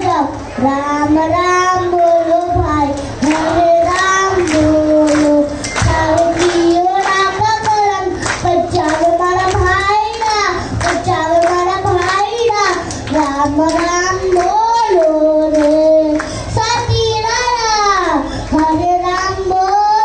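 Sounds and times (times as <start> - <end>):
boy singing into a microphone: 0.0 - 20.0.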